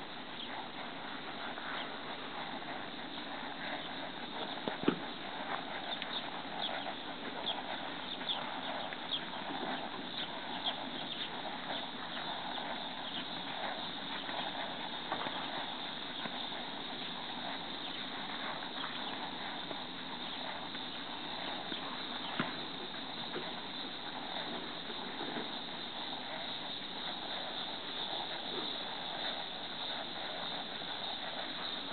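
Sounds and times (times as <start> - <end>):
hoofbeats on soft dirt: 0.0 - 31.9
outdoor background hiss: 0.0 - 31.9.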